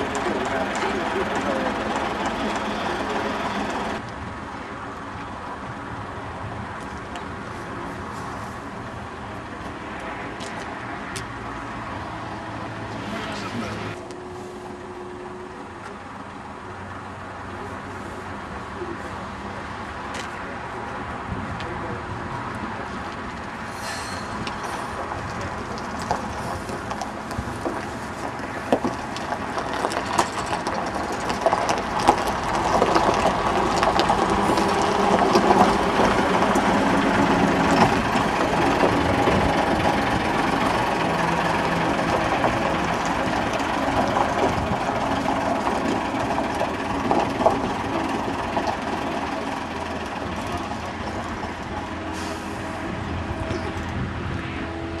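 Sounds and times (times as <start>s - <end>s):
bus diesel engine driving off: 0.0s - 55.0s.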